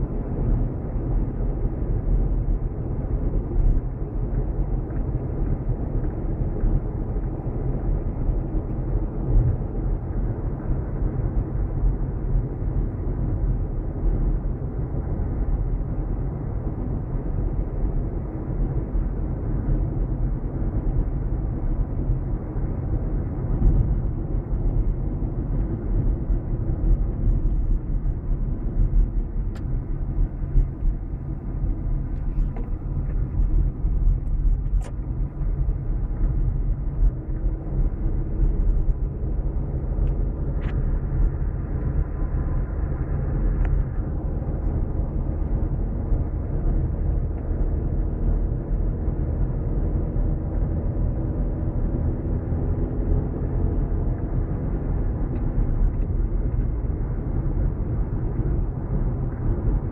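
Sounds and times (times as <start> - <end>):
car driving on highway: 0.0 - 59.9.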